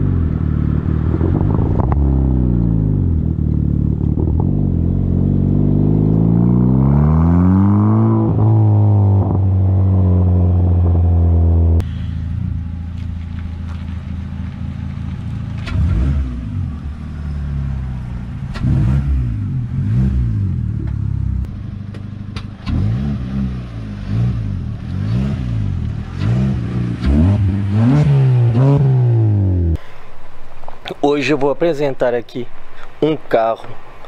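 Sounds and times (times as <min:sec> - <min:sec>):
car engine revving in blips: 0:00.0 - 0:29.8.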